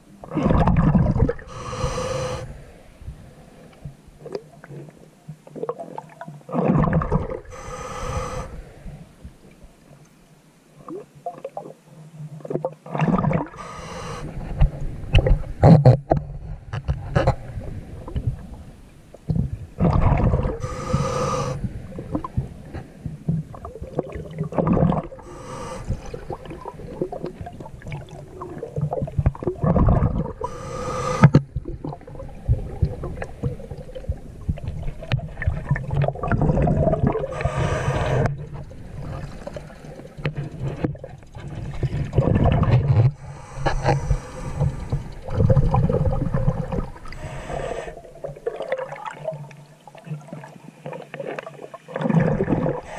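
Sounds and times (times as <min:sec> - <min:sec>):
underwater gurgling and bubbling: 0:00.0 - 0:03.6, 0:04.2 - 0:09.3, 0:12.4 - 0:52.9.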